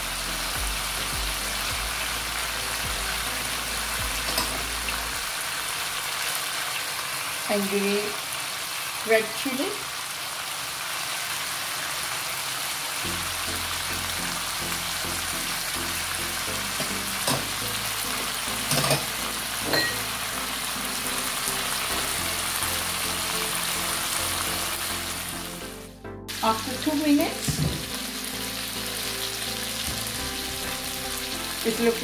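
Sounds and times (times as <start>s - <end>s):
chicken sizzling in oil: 0.0s - 32.0s.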